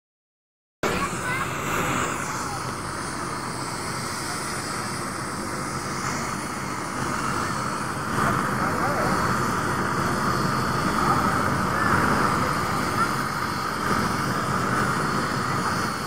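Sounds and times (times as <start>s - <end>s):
crowd chatter: 0.8s - 16.0s
helicopter engine whine and rumble: 0.8s - 16.0s.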